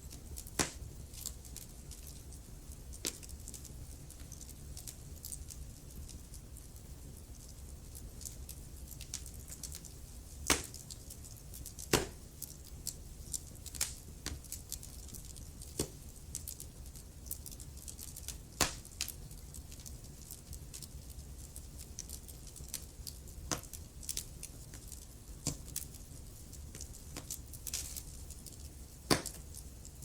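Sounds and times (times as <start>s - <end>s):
wood fire crackling: 0.0s - 30.0s
fire pops: 0.1s - 2.3s, 2.9s - 6.4s, 8.1s - 16.5s, 17.5s - 20.9s, 21.5s - 30.0s.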